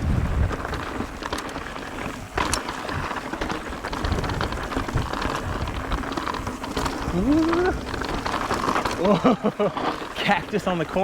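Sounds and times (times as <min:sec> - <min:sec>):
wind buffeting microphone: 0:00.0 - 0:09.1
bike tyres crunching on gravel: 0:00.0 - 0:11.0
small clicks and rattles: 0:00.4 - 0:11.0.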